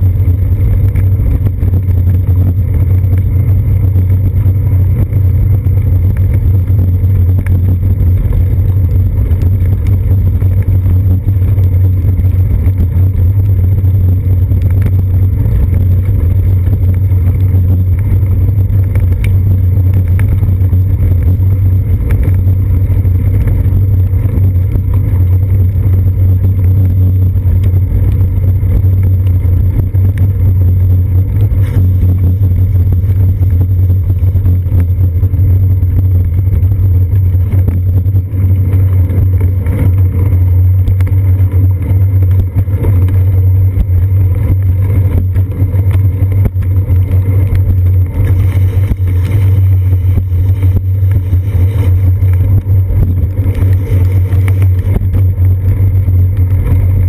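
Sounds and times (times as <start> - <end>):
bicycle rolling on wet pavement: 0.0 - 57.0.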